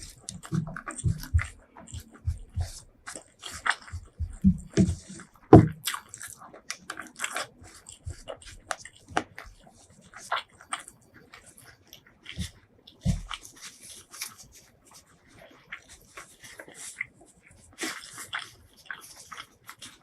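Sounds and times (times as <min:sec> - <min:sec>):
crunchy biting and chewing: 0:00.0 - 0:20.0.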